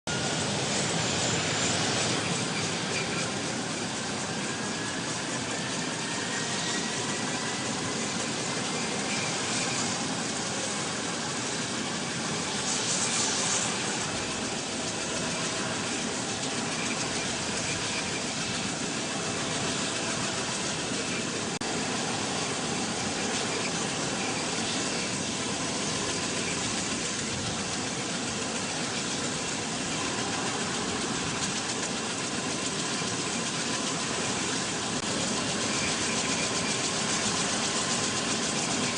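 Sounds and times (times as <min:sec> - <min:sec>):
aircraft engines running: 0:00.1 - 0:38.9
faint turbine whine: 0:00.1 - 0:38.9.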